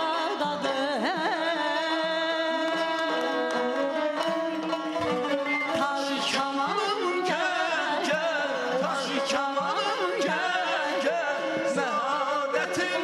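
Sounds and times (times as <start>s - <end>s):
lute and fiddle melody: 0.0s - 13.0s.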